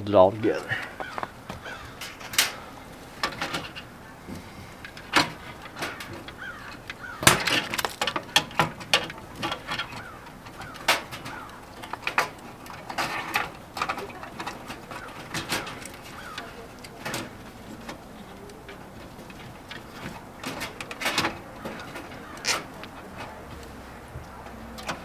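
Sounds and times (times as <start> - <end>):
birds chirping: 0.0 - 25.0
clicks and knocks of hands wiring: 3.2 - 25.0.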